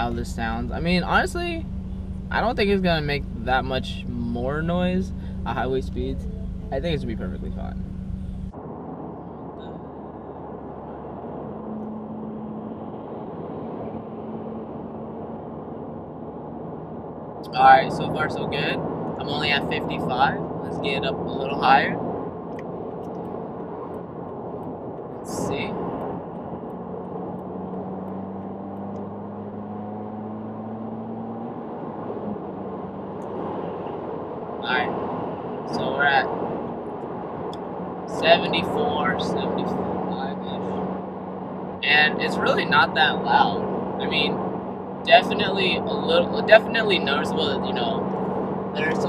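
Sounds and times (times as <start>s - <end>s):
steady low hum: 0.0s - 28.2s, 34.4s - 49.0s
road and wind noise in car: 0.0s - 49.0s.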